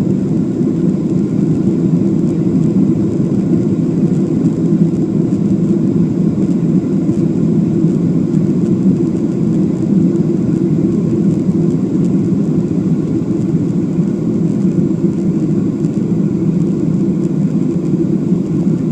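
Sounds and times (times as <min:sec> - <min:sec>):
jet engine cabin drone: 0:00.0 - 0:18.9.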